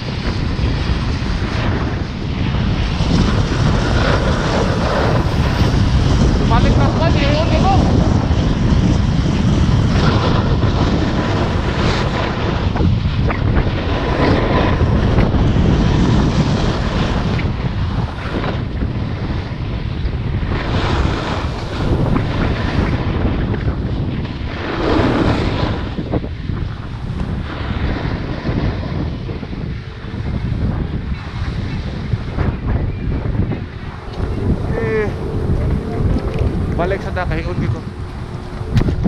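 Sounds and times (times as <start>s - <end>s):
snowboard scraping over snow: 0.0s - 39.0s
wind rushing over microphone: 0.0s - 39.0s.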